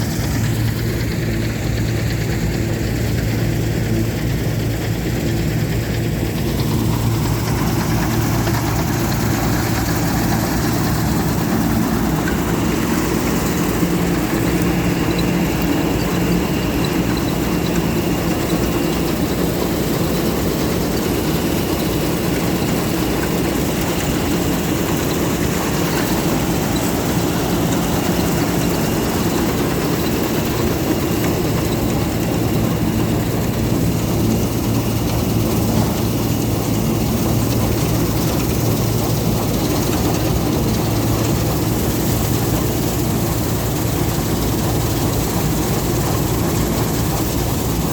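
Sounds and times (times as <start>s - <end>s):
combine harvester engine drone: 0.0s - 47.9s.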